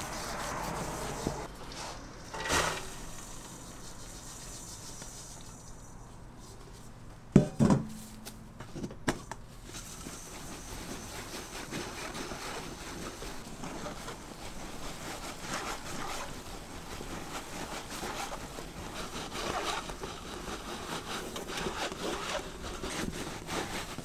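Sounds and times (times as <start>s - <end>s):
hands rubbing flour in sieve: 0.0s - 1.5s, 2.8s - 7.0s, 9.6s - 24.0s.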